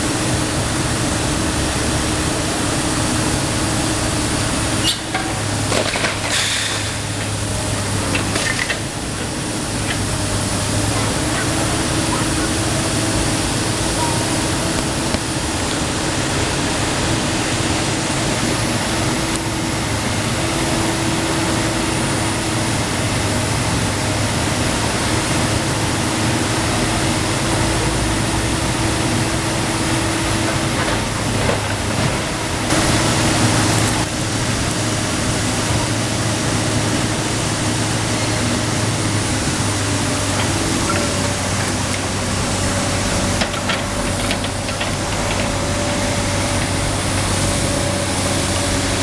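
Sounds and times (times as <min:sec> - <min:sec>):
excavator diesel engine humming: 0:00.0 - 0:49.0
loud noise burst: 0:00.0 - 0:49.0.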